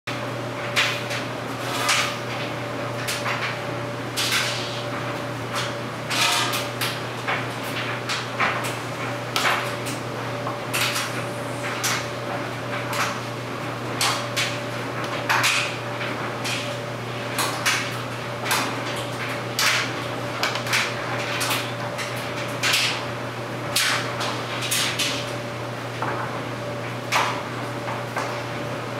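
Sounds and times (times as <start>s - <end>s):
clothes dryer humming: 0.1s - 28.9s.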